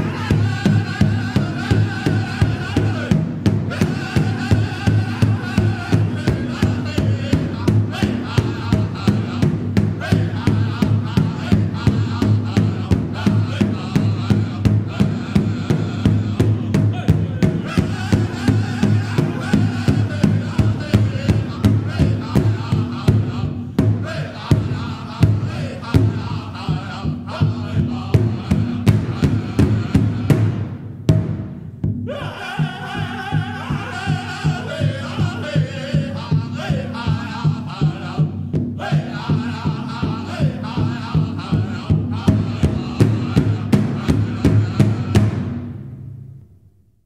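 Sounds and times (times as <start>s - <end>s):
chanted singing: 0.0s - 30.4s, 32.1s - 45.4s
drumbeat: 0.0s - 46.1s.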